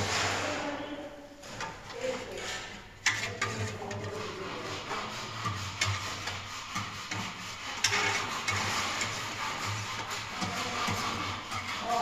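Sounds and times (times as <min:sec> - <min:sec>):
scraping: 0:00.0 - 0:12.0.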